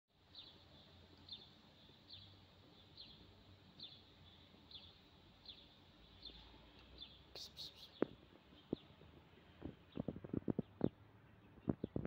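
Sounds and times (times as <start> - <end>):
small bird chirping: 0.2 - 12.0.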